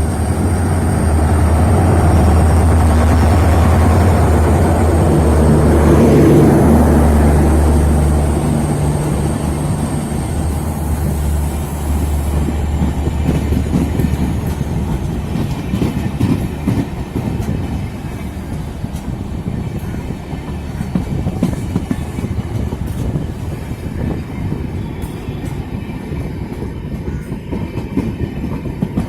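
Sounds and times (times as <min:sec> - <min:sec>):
locomotive low hum: 0:00.0 - 0:27.0
train wheels clattering over rail joints: 0:00.0 - 0:29.0.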